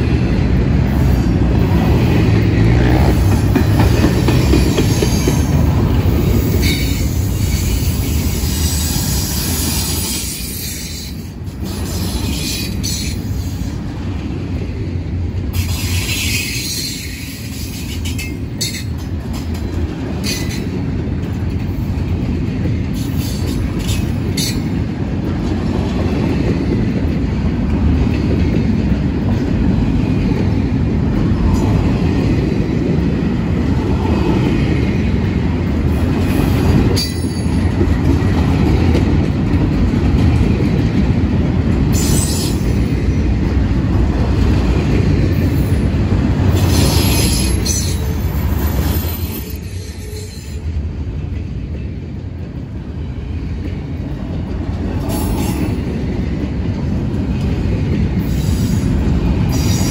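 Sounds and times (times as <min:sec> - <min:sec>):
freight train wheels rumbling on rail: 0:00.0 - 0:59.9
train clatter and knocks: 0:00.0 - 0:59.9.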